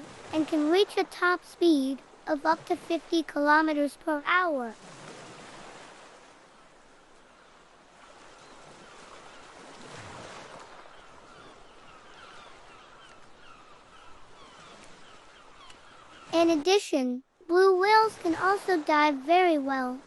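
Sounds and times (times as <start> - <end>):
ocean waves washing: 0.0 - 20.0.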